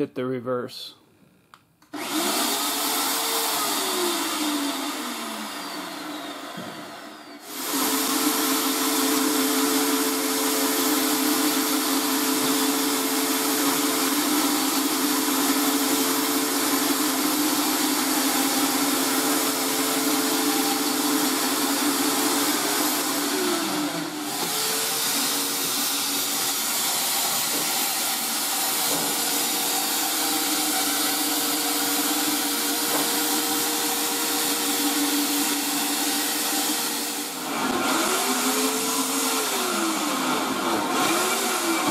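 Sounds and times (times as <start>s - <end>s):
electric winch motor whining: 1.9s - 41.9s.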